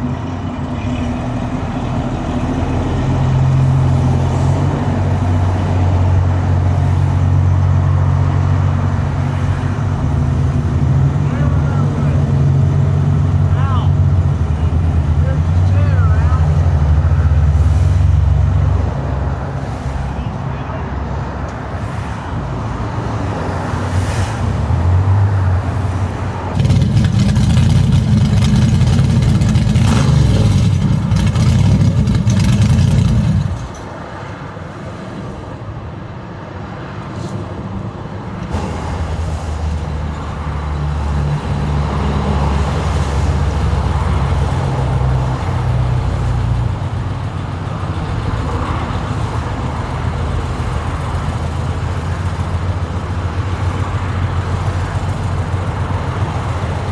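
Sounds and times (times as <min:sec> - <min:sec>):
car engines running: 0:00.0 - 0:21.9, 0:25.3 - 0:34.2, 0:39.4 - 0:56.9.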